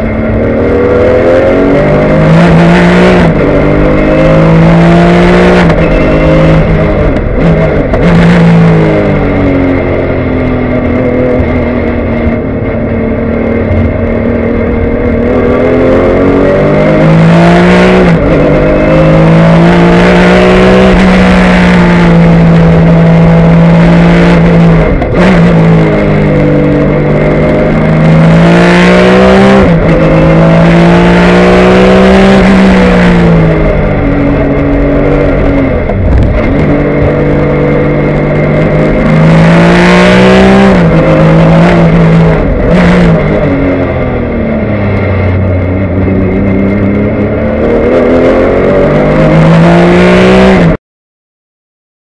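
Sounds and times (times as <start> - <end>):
race car engine revving: 0.0 - 50.8.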